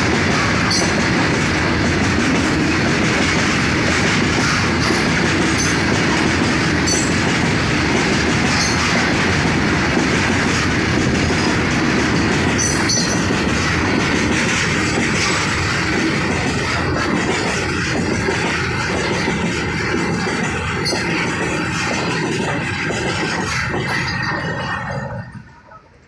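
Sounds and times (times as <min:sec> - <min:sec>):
high squeaks of train: 0:00.0 - 0:26.0
train rumbling along track: 0:00.0 - 0:26.0.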